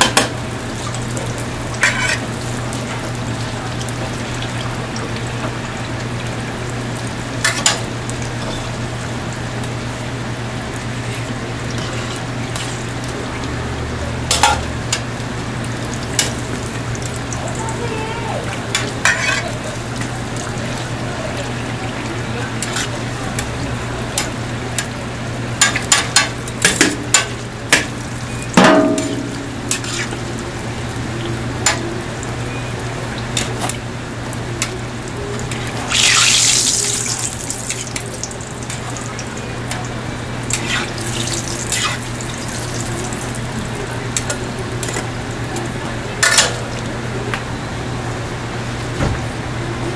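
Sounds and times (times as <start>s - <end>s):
pancakes sizzling in oil: 0.0s - 17.5s, 18.6s - 45.5s.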